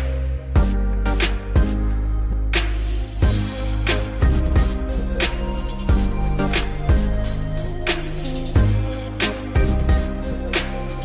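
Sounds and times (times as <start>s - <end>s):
instrumental music with drum beat: 0.0s - 1.9s, 2.6s - 11.0s.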